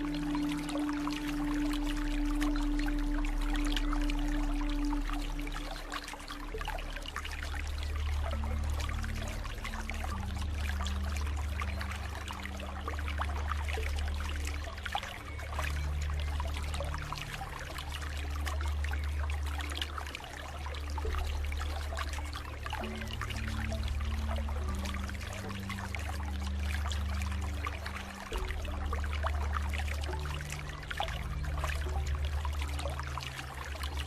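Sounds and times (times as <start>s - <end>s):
ambient music drone: 0.0s - 34.0s
water trickling and splashing: 0.0s - 34.0s.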